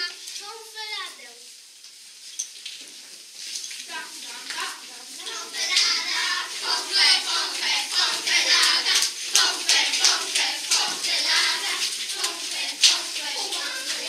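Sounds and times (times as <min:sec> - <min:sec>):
children calling and chattering: 0:00.0 - 0:01.5, 0:03.8 - 0:14.0
rustling and scuffling: 0:00.0 - 0:14.0.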